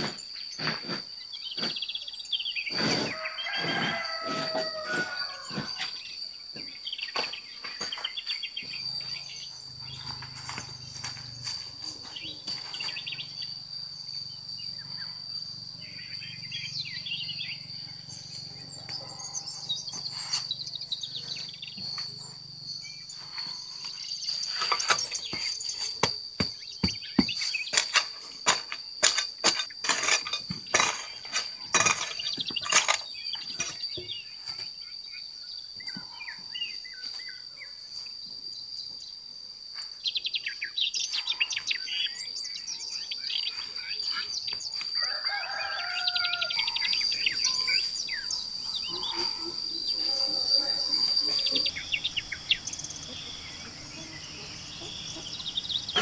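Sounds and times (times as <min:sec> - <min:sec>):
insects droning: 0:00.0 - 0:56.0
birds chirping: 0:01.2 - 0:34.4, 0:40.6 - 0:56.0.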